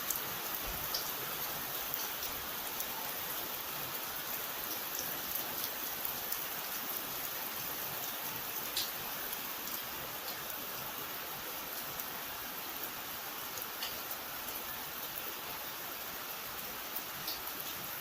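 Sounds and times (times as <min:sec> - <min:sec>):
steady rain hissing: 0:00.0 - 0:18.0.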